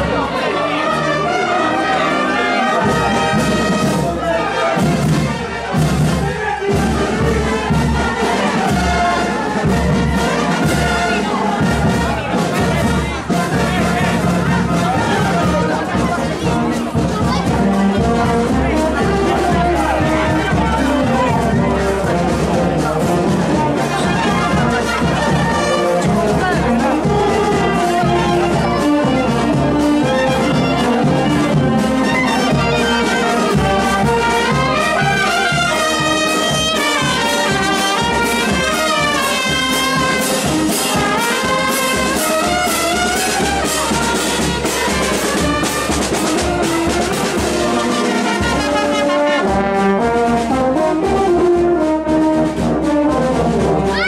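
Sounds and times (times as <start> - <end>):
brass marching band playing: 0.0 - 54.0.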